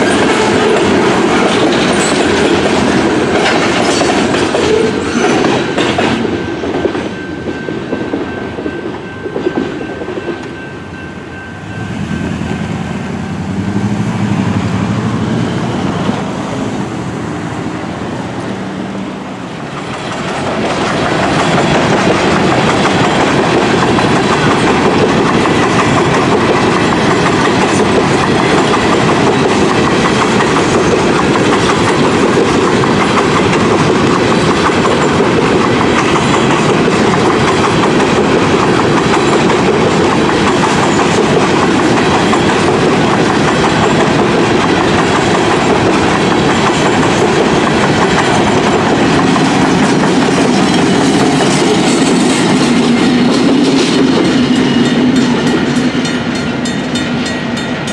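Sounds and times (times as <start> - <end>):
train railcars rumbling and clattering: 0.0 - 57.9.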